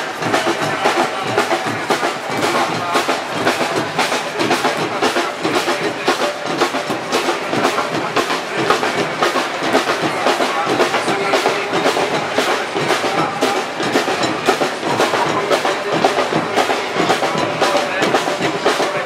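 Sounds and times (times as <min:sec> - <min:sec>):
music with busy drumming: 0:00.0 - 0:19.0.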